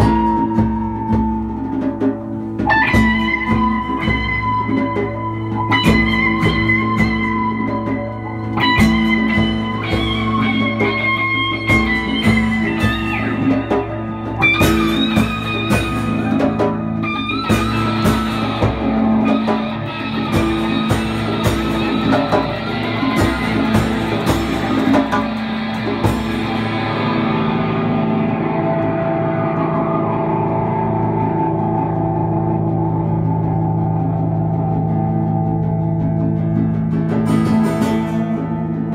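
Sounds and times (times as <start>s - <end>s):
acoustic guitar strumming: 0.0s - 38.9s
electric guitar: 0.0s - 38.9s.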